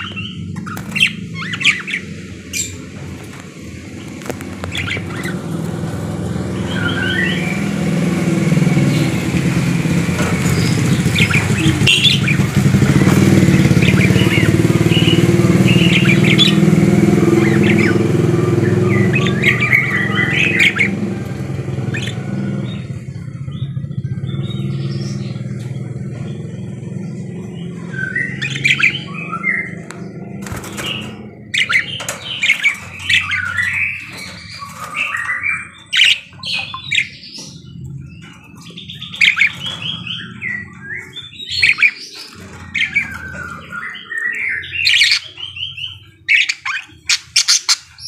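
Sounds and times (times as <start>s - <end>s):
budgerigars chirping: 0.0s - 48.0s
vehicle engine hum: 0.0s - 48.0s.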